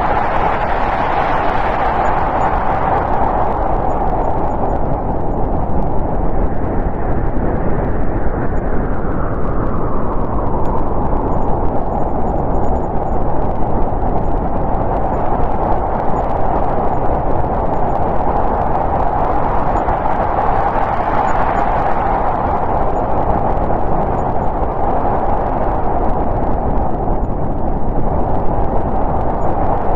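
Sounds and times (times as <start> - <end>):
snowstorm wind rushing: 0.0 - 29.9.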